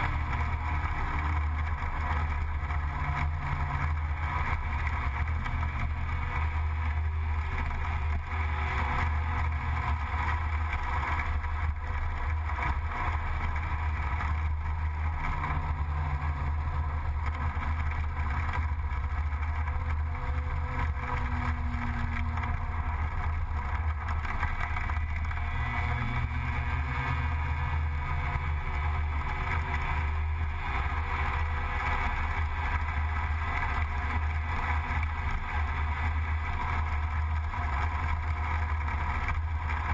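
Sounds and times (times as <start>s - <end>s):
scooter engine drone: 0.0s - 39.9s.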